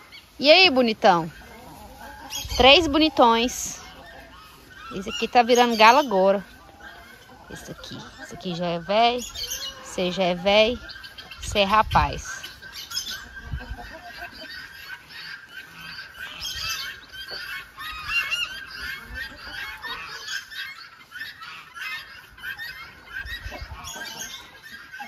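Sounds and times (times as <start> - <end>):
guineafowl calling: 0.0 - 25.0.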